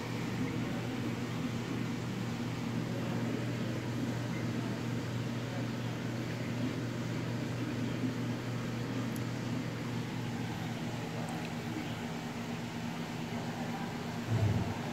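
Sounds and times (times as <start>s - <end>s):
aquarium pump humming: 0.0s - 14.9s.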